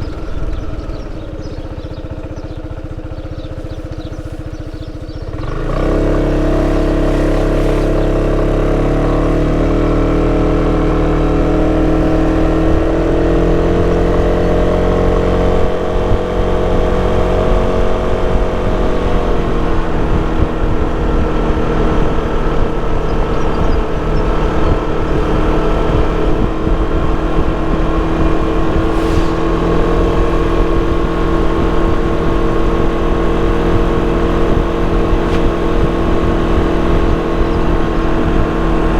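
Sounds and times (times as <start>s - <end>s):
scooter engine droning: 0.0s - 38.9s.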